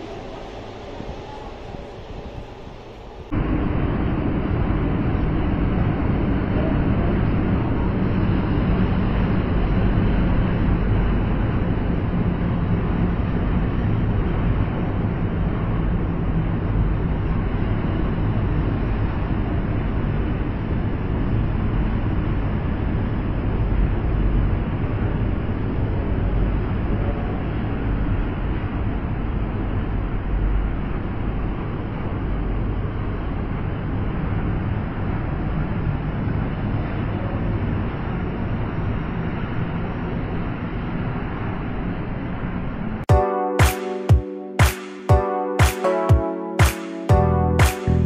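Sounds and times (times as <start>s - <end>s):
metro train rumbling: 0.0s - 43.6s.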